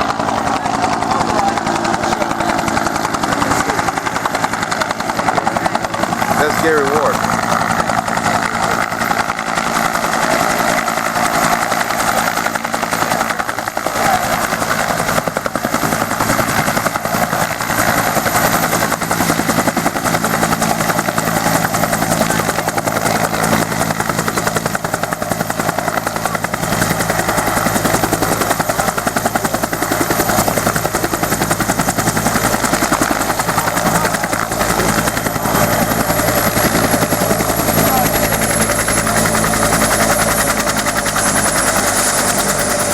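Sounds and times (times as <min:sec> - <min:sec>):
helicopter rotor beating: 0:00.0 - 0:42.9.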